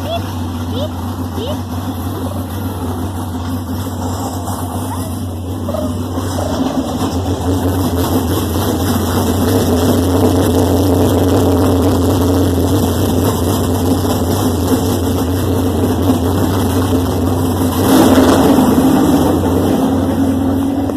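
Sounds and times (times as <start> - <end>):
race car engine running: 0.0 - 20.9.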